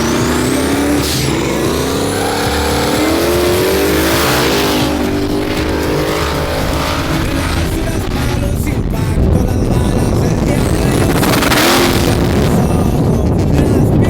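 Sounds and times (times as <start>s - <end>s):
race engine accelerating: 0.0s - 13.1s.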